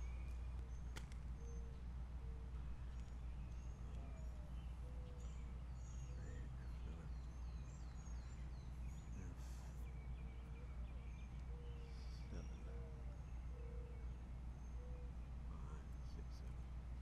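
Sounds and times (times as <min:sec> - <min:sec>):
birds chirping and calling: 0:00.0 - 0:17.0
steady low rumble: 0:00.0 - 0:17.0.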